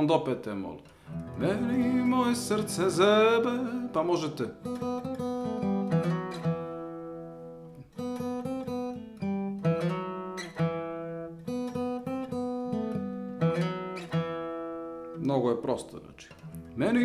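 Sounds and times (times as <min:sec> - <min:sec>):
acoustic guitar chords: 0:00.9 - 0:15.2.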